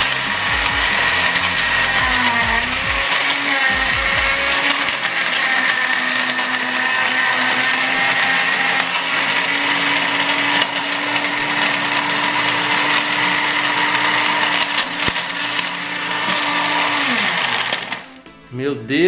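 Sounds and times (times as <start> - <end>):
blender grinding plastic: 0.0 - 18.3.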